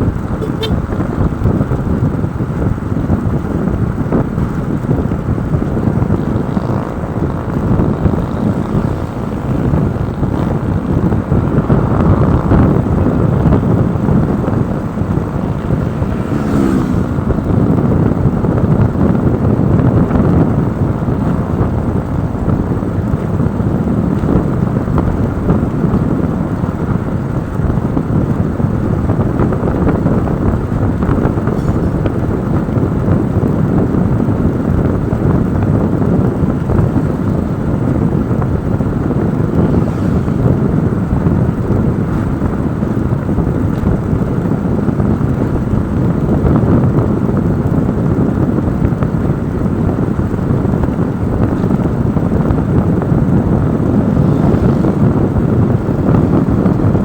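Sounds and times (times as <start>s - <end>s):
motorcycle engine: 0.0s - 57.0s
road noise: 0.0s - 57.0s
wind buffeting microphone: 0.0s - 57.0s.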